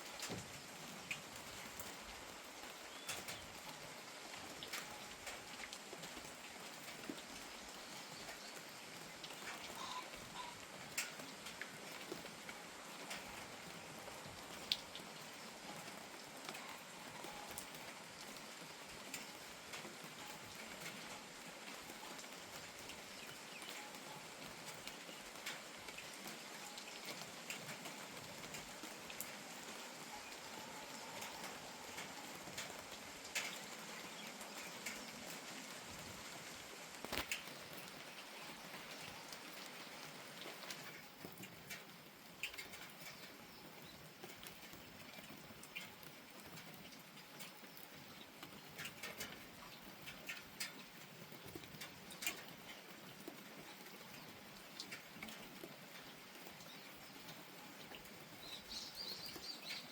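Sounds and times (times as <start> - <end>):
light rain falling: 0.0 - 59.9.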